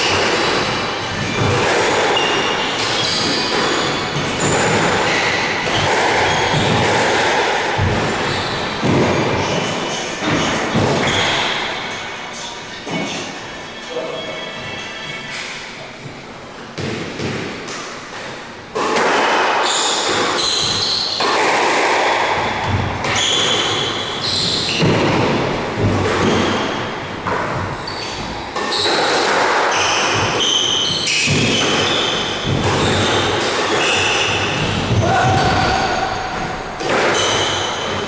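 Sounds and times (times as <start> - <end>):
squash ball smacking: 0.0 - 11.7, 16.8 - 18.0, 18.7 - 38.0.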